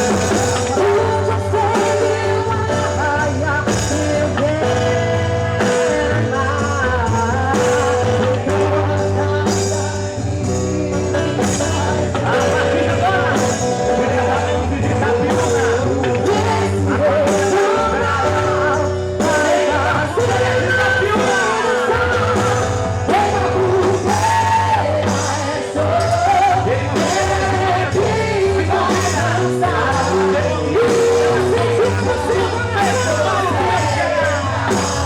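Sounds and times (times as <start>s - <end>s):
live band playing folk music: 0.0s - 35.0s
person singing: 0.0s - 35.0s.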